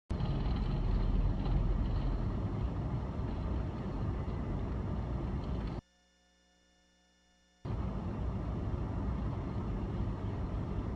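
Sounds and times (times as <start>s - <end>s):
car driving on icy road: 0.1s - 5.8s, 7.7s - 10.9s.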